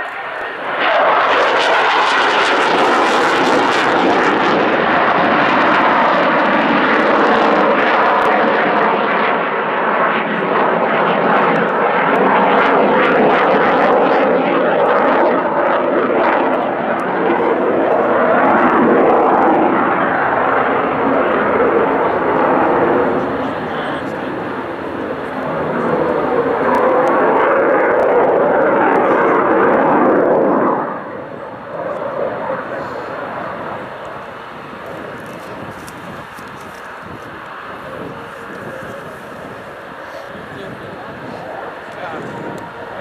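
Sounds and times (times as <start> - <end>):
fighter jet engine roaring: 0.0 - 43.0.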